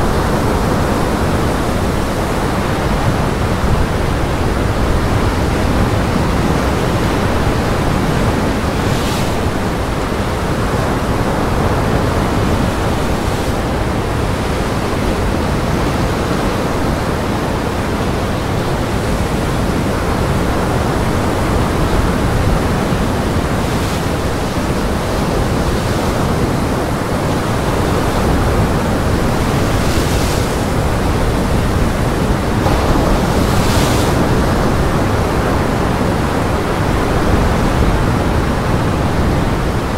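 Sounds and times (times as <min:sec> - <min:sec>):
gale wind roaring: 0:00.0 - 0:39.9
heavy surf: 0:00.0 - 0:39.9
waves breaking: 0:00.0 - 0:39.9.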